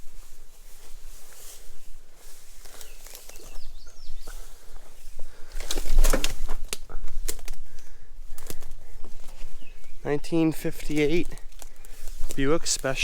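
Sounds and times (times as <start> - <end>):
footsteps crunching through dry brush: 0.0 - 13.0.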